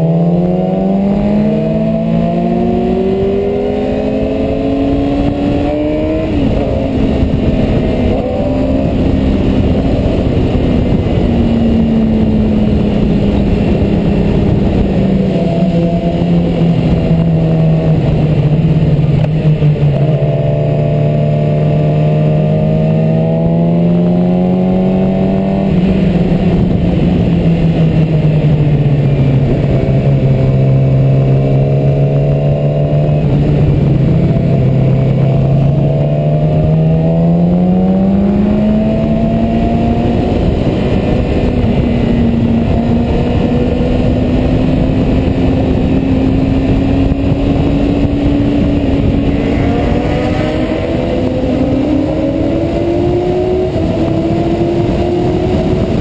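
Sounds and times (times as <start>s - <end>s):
motorcycle engine under way: 0.0s - 56.0s
wind rushing: 0.0s - 56.0s.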